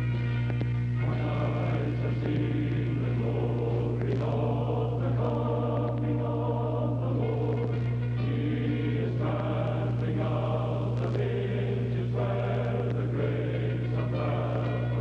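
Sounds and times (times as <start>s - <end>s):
choir singing sustained chords: 0.0s - 15.0s
steady low hum: 0.0s - 15.0s.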